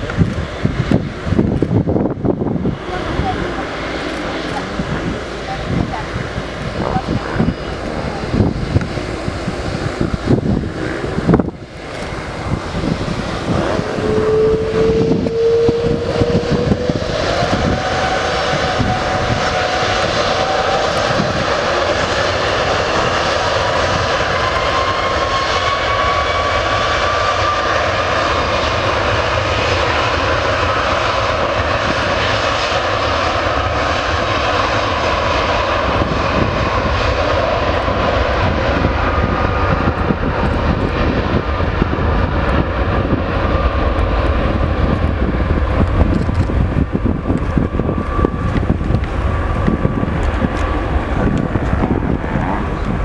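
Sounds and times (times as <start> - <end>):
jet engines spooling up: 0.0 - 53.0.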